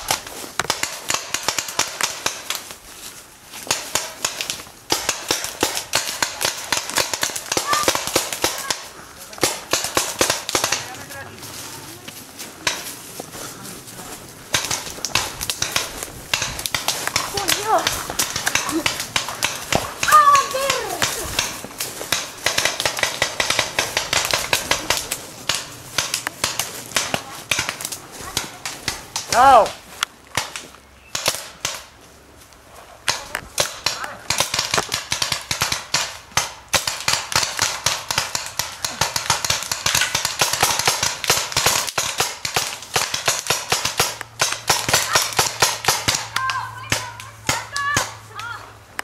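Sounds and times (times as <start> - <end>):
paintball markers firing: 0.0 - 2.8, 3.6 - 11.2, 14.5 - 31.9, 33.1 - 48.5.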